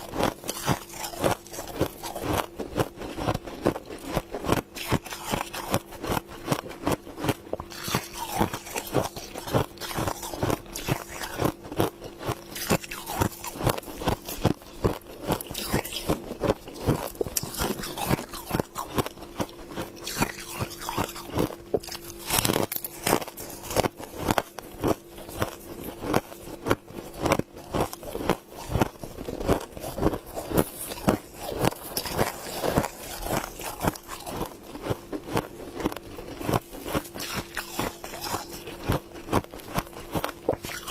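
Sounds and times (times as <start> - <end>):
crisp chewing crunches: 0.0 - 40.9
faint steady hum: 0.0 - 40.9.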